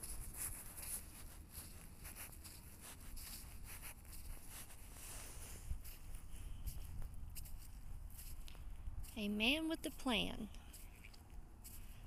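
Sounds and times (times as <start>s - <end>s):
footsteps crunching through dry grass: 0.0s - 12.0s.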